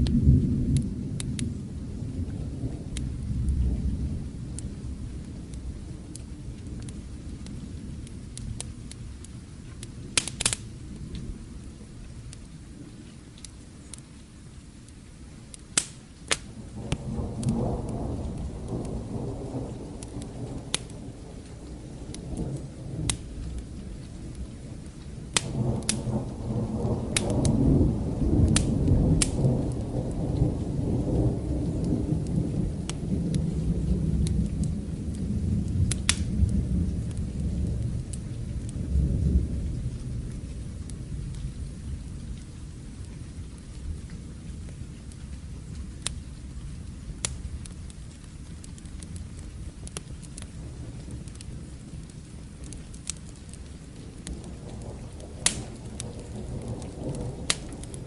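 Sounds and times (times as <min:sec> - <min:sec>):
distant thunder rumbling: 0:00.0 - 0:13.0, 0:16.4 - 0:58.0
steady rain: 0:00.0 - 0:58.0
wood fire crackling: 0:00.0 - 0:58.0.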